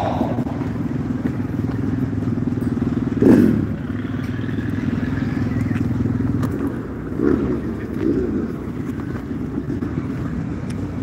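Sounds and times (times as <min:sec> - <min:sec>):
motorcycle engines running: 0:00.0 - 0:11.0.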